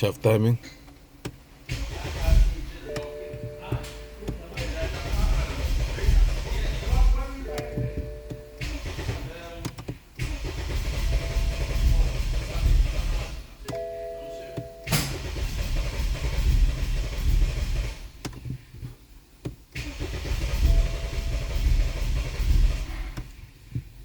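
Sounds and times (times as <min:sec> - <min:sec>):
car engine cranking: 0:00.0 - 0:24.0.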